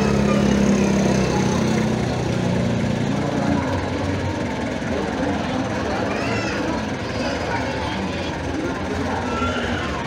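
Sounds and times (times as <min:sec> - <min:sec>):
jeep engine running: 0:00.0 - 0:10.0.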